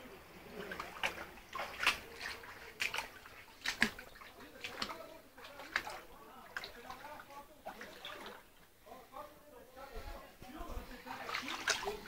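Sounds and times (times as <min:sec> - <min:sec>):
water splashing and sloshing: 0:00.0 - 0:09.1, 0:10.0 - 0:12.0.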